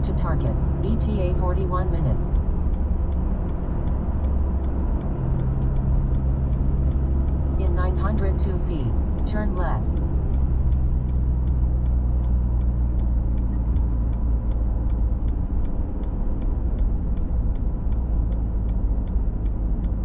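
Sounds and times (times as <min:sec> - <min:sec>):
engine and road rumble: 0:00.0 - 0:20.0
turn signal ticking: 0:00.0 - 0:20.0.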